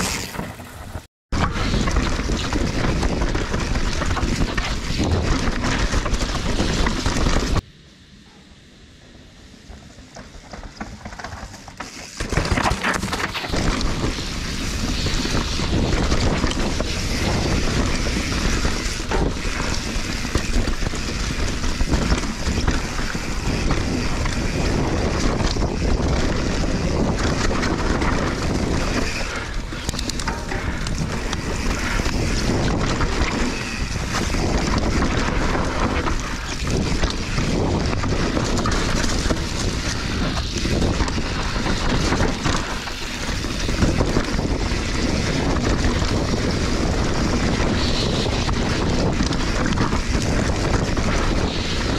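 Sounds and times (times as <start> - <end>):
bike clattering over rocks: 0.0 - 7.6, 10.1 - 47.6
tyres rolling on dirt: 0.0 - 7.6, 9.6 - 51.9
wind buffeting microphone: 0.0 - 7.6, 12.4 - 51.9.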